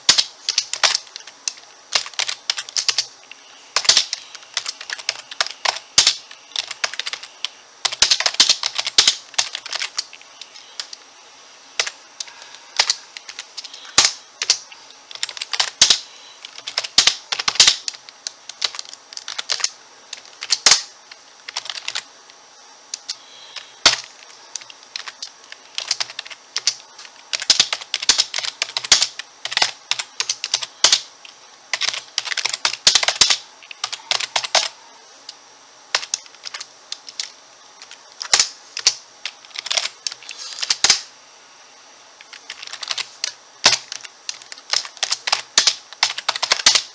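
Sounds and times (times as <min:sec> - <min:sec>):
computer keyboard keys clicking: 0:00.1 - 0:03.1, 0:03.8 - 0:07.3, 0:07.9 - 0:11.0, 0:12.8 - 0:20.9, 0:21.5 - 0:22.0, 0:23.8 - 0:31.0, 0:31.7 - 0:34.7, 0:35.9 - 0:41.0, 0:42.2 - 0:46.9.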